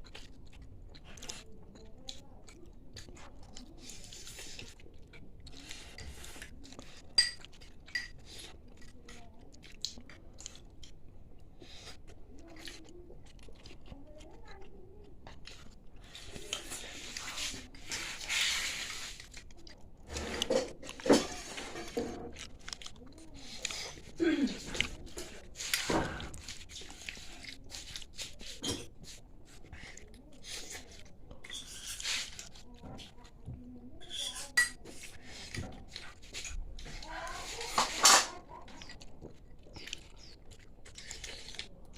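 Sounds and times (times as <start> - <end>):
person chewing: 0.0 - 33.4, 34.8 - 37.8, 38.4 - 41.9.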